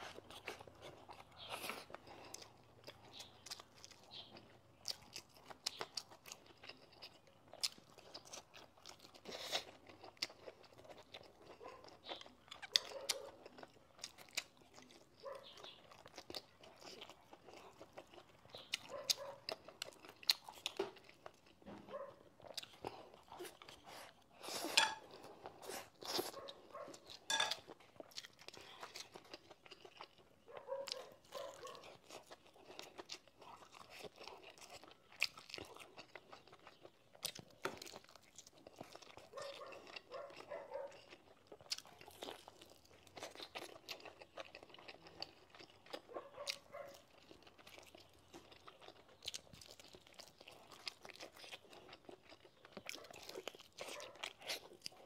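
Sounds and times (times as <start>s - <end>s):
food crunching: 0.0s - 55.0s
person chewing food: 0.0s - 55.0s.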